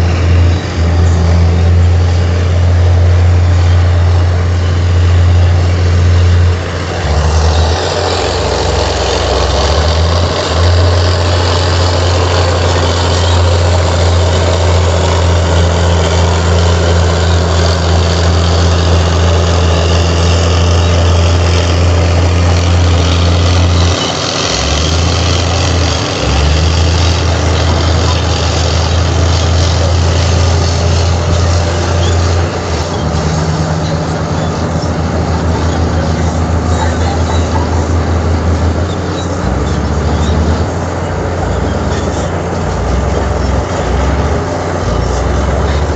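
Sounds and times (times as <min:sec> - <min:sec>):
bulldozer diesel engine drone: 0:00.0 - 0:45.9.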